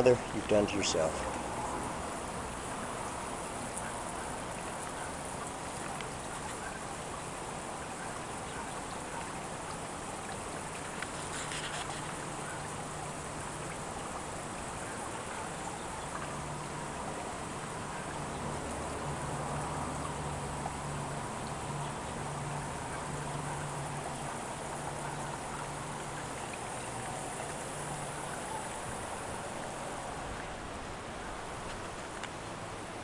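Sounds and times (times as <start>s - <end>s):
fountain water trickling: 0.0s - 33.0s.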